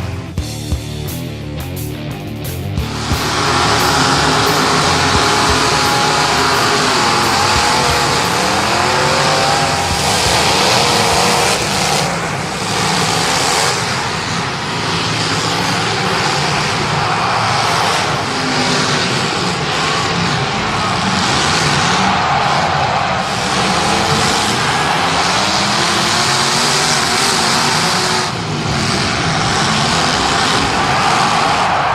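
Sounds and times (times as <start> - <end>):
car engines racing at high revs: 0.0 - 31.9.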